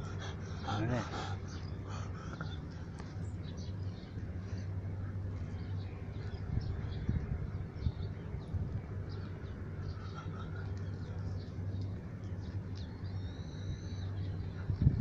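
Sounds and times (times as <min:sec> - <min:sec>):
birds calling: 0:00.0 - 0:15.0
low hum: 0:00.0 - 0:15.0.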